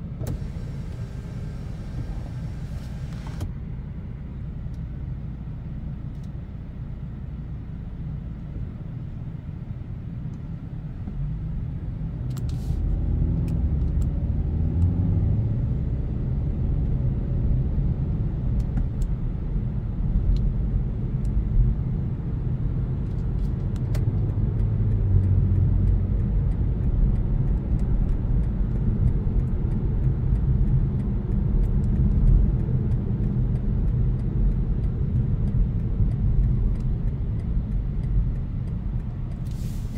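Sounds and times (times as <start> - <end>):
diesel car engine: 0.0 - 39.9.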